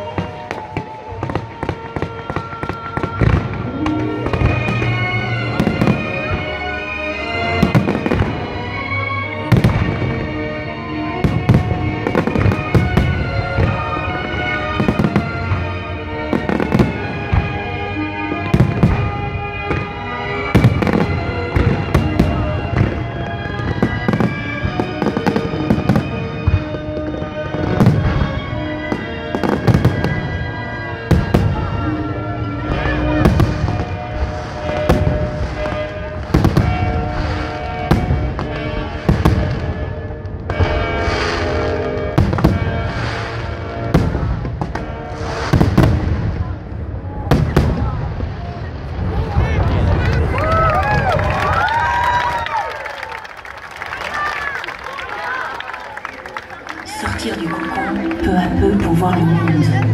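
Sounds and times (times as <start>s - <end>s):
fireworks bangs and crackles: 0.0s - 56.2s, 56.8s - 59.9s
music playing: 0.0s - 59.9s.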